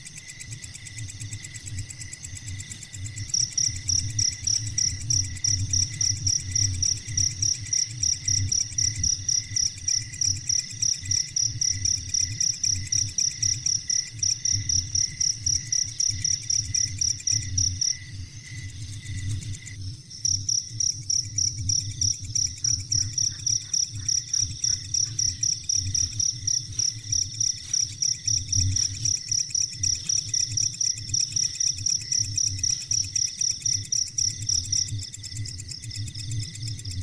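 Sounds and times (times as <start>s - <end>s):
cricket chirping: 0.0s - 37.0s.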